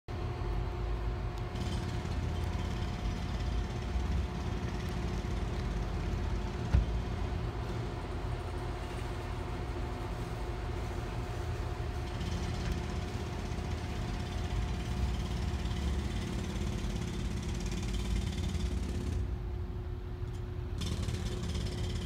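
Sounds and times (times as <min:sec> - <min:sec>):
traffic and machinery rumble: 0:00.1 - 0:22.0.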